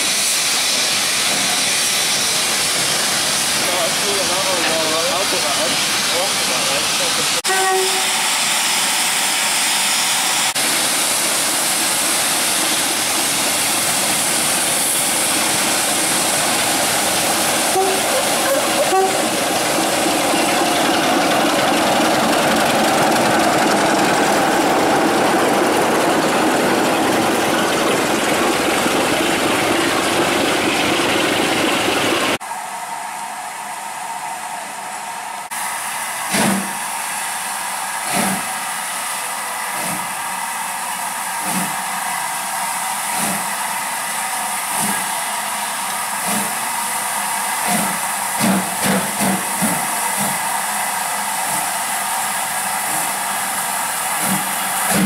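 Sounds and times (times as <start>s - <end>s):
train engine noise: 0.0s - 55.0s.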